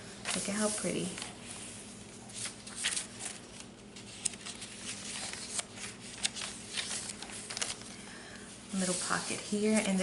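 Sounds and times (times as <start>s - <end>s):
paper rustling and crinkling: 0.2s - 10.0s.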